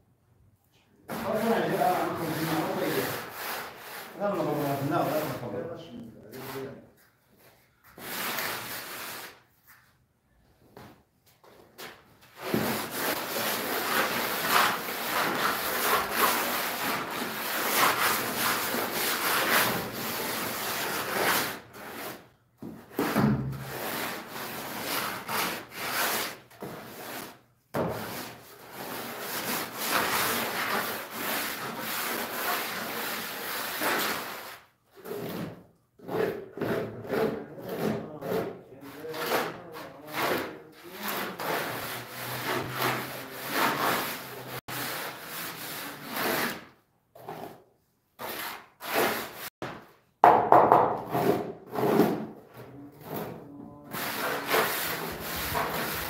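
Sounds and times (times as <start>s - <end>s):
trowel scraping mortar: 1.1s - 6.8s, 11.9s - 49.6s, 51.0s - 56.0s.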